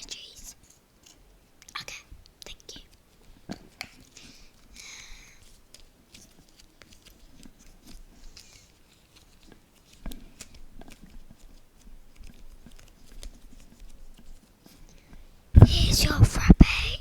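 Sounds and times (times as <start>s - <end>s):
small sticky clicks: 0.4s - 15.1s.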